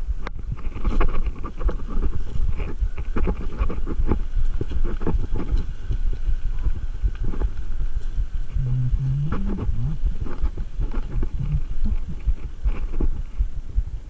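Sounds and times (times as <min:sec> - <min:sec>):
bike rattling: 0:00.0 - 0:14.0
bike tyres over stones: 0:00.0 - 0:14.0
low rumble: 0:00.0 - 0:14.0.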